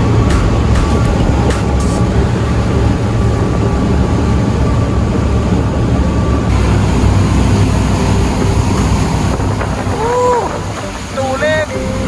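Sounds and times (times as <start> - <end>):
boat engine deep drone: 0.0 - 12.0
churning wake water and wind: 0.0 - 12.0.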